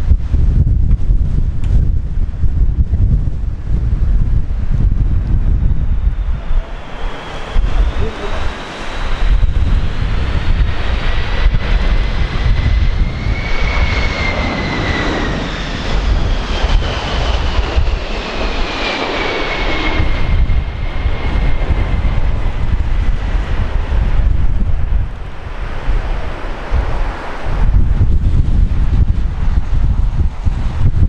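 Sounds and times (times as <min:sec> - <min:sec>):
jet engine whine: 0:00.0 - 0:31.0
wind buffeting microphone: 0:00.0 - 0:31.0.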